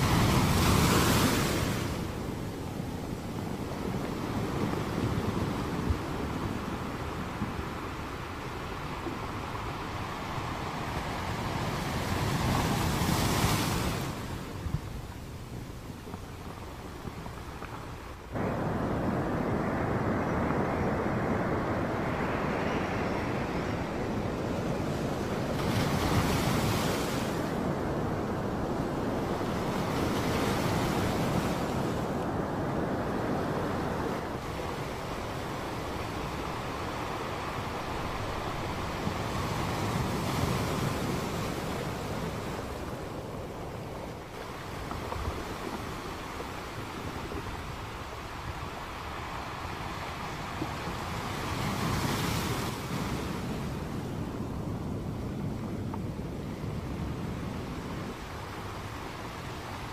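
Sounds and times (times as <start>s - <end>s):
surf washing on sand beach: 0.0s - 59.9s
wind buffeting microphone: 0.0s - 59.9s.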